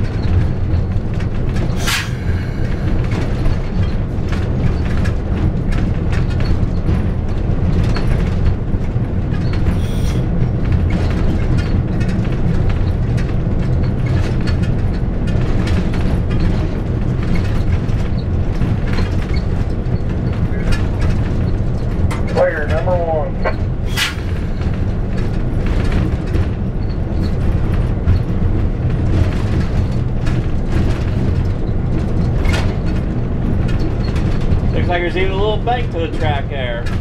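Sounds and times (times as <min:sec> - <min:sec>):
locomotive engine drone: 0:00.0 - 0:37.0
wheels clanking on rails: 0:00.0 - 0:37.0.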